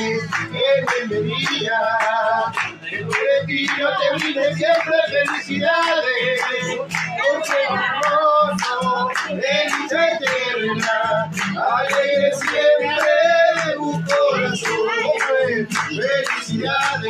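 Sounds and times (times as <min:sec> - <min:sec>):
voices singing: 0:00.0 - 0:17.0.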